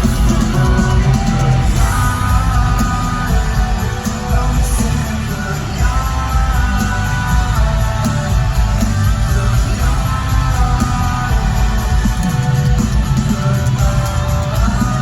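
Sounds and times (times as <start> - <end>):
rock band playing loudly: 0.0 - 15.0.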